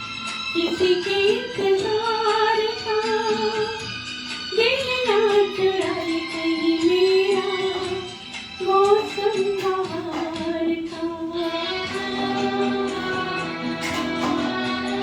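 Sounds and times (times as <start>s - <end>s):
instrumental accompaniment: 0.0s - 15.0s
woman singing: 0.5s - 3.9s, 4.5s - 15.0s.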